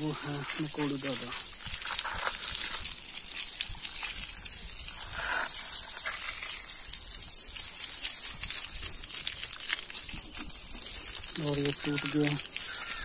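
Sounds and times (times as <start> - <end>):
water spraying from a tap: 0.0 - 13.0.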